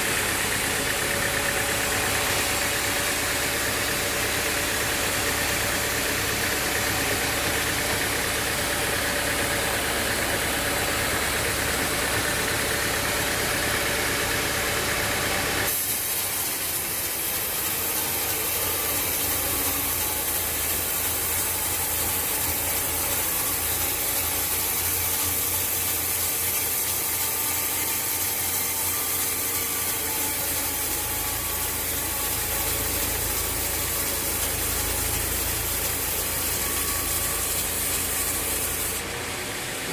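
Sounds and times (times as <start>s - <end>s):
sawmill machinery engine running: 0.0s - 39.9s.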